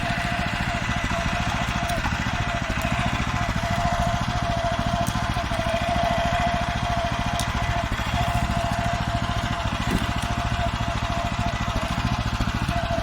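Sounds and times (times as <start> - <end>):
steady engine whine: 0.0 - 13.0
tractor engine running: 0.0 - 13.0.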